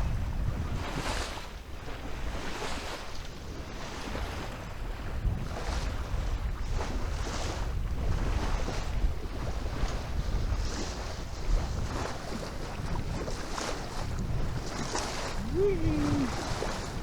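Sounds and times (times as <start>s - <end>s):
water rushing along a hull: 0.0s - 17.0s
wind rumbling on microphone: 0.0s - 17.0s.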